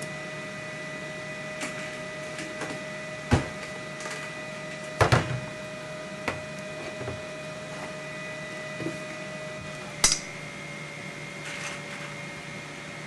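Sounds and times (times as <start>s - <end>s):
equipment hum: 0.0s - 13.0s.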